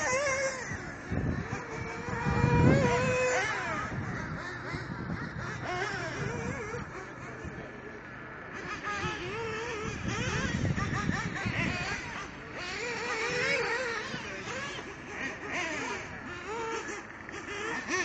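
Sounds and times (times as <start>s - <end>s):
toy car motor whining: 0.0s - 18.0s.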